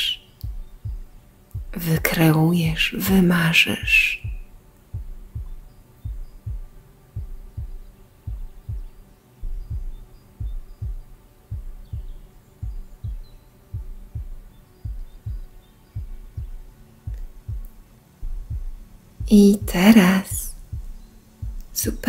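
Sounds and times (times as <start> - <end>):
faint ambient drone: 0.0 - 22.0
heartbeat thumps: 0.0 - 22.0.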